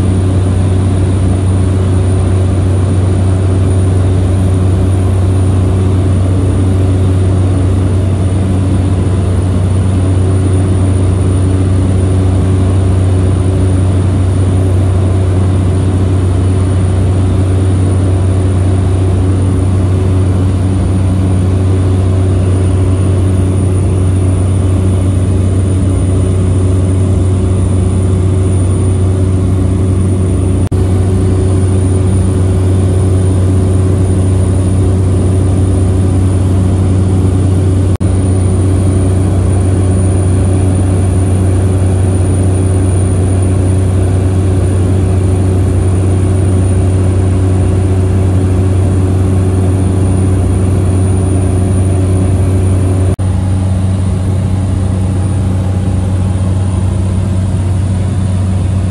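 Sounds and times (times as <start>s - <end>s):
propeller engine drone: 0.0s - 58.9s.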